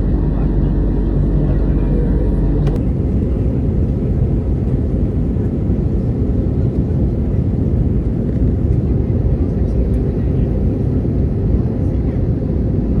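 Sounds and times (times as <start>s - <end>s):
jet engines and airflow rumble: 0.0s - 13.0s.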